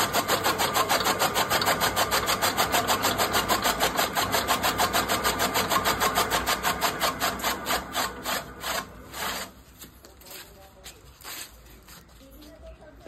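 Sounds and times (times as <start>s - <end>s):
chaff cutter blades chopping stalks: 0.0s - 11.6s.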